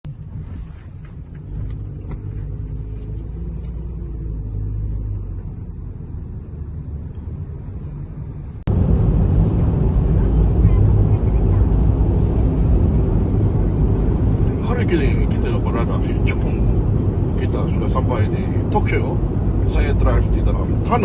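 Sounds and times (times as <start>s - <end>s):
vehicle rumbling in motion: 0.0s - 21.0s
faint engine hum: 0.1s - 21.0s.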